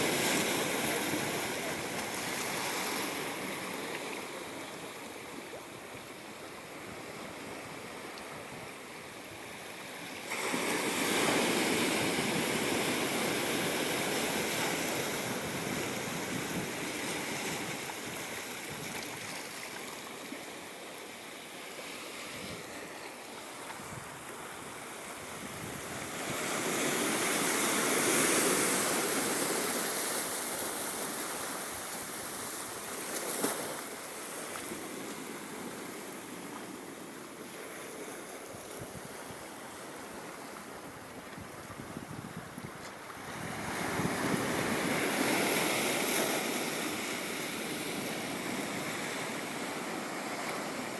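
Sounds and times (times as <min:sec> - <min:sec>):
ocean waves washing ashore: 0:00.0 - 0:50.9.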